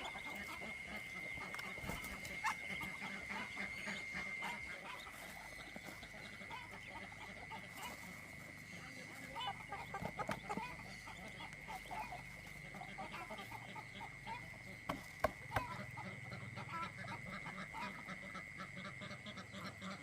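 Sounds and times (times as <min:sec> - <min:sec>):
poultry honking and clucking: 0:00.0 - 0:20.0.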